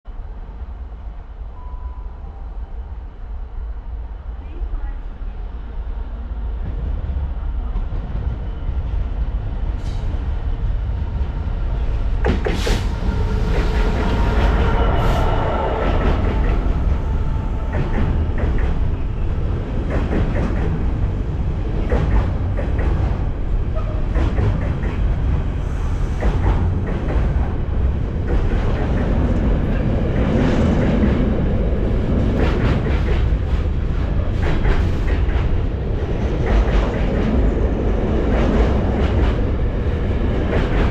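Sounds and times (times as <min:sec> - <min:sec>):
diesel locomotive engine: 0:00.1 - 0:40.9.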